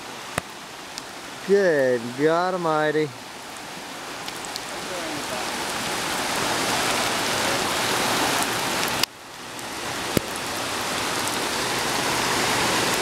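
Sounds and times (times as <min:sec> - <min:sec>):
heavy rain: 0:00.0 - 0:13.0
rushing floodwater: 0:00.0 - 0:13.0.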